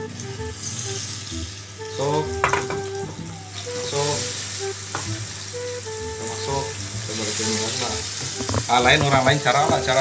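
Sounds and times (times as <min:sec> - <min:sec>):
tomatoes sizzling in hot oil: 0:00.0 - 0:10.0.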